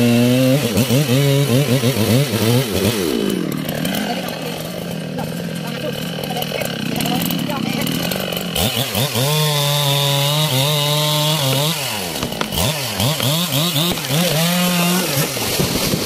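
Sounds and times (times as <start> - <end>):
chainsaw cutting and revving: 0.0 - 16.0.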